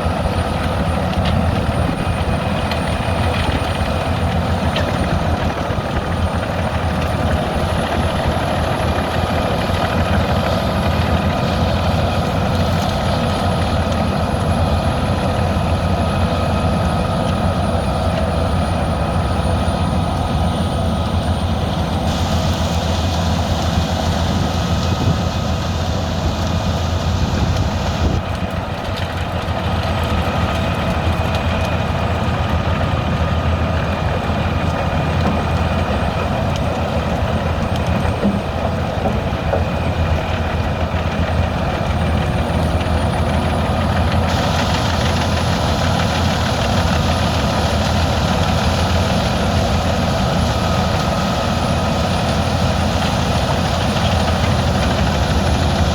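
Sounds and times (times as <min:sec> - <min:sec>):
wood chipper droning: 0:00.0 - 0:55.9.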